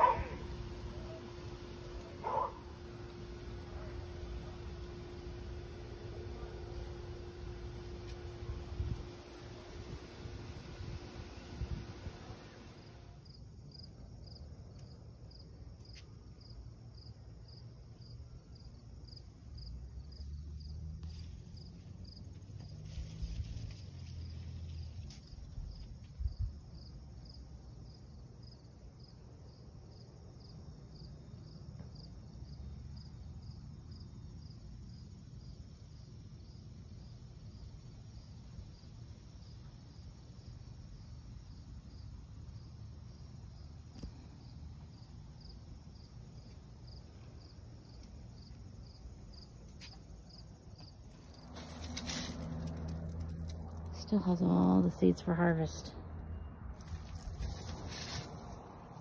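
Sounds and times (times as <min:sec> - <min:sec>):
cricket chirping: 0:00.0 - 0:11.8, 0:12.4 - 0:54.3, 0:55.5 - 0:59.0.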